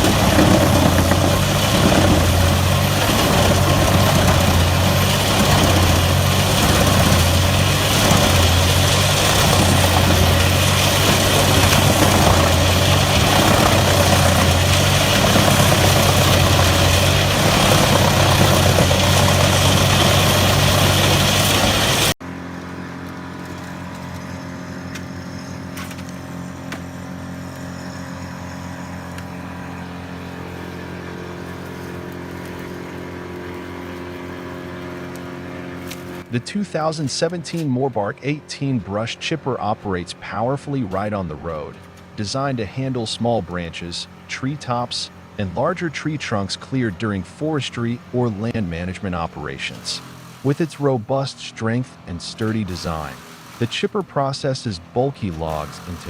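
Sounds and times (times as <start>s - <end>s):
wood chipper running: 0.0s - 56.0s.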